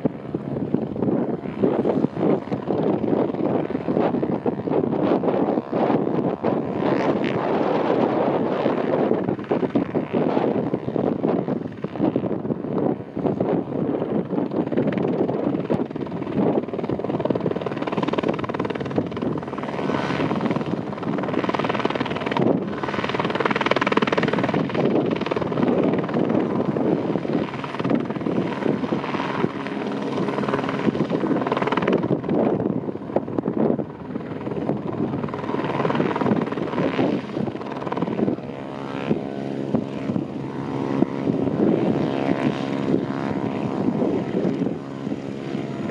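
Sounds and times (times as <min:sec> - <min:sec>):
helicopter engine running: 0:00.0 - 0:45.9
helicopter rotor beating: 0:00.0 - 0:45.9.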